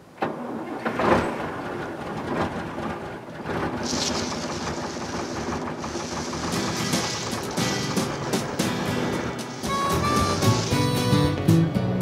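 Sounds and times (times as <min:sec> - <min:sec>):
truck engine starting and running: 0:00.0 - 0:12.0.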